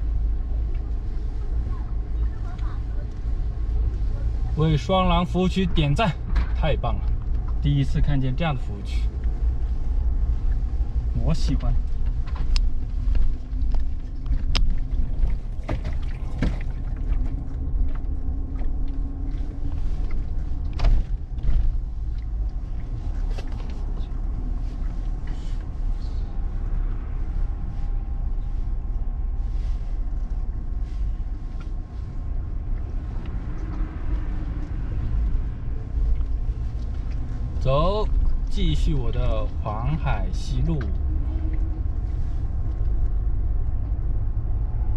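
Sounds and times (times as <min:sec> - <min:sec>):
steady low rumble: 0:00.0 - 0:44.9.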